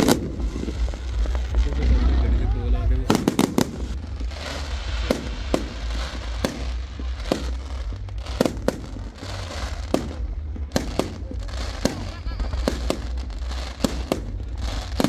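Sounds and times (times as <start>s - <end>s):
crackling hiss: 0.0s - 15.0s
fireworks bangs: 0.0s - 15.0s.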